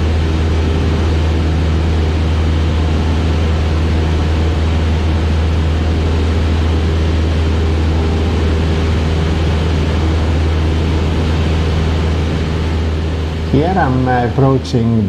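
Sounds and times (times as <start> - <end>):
airflow rushing: 0.0 - 15.0
propeller plane engine hum: 0.0 - 15.0.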